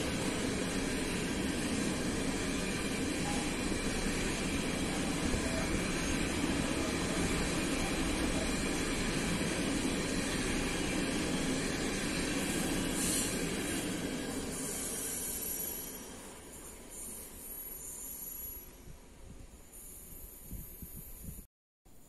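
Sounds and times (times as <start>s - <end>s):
train running past: 0.0s - 19.1s.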